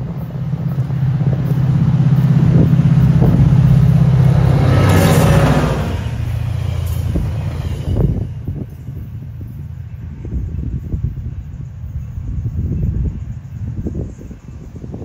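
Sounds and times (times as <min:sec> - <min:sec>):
diesel locomotive engine drone: 0:00.0 - 0:15.0
hissing wheel and rail noise: 0:00.0 - 0:15.0.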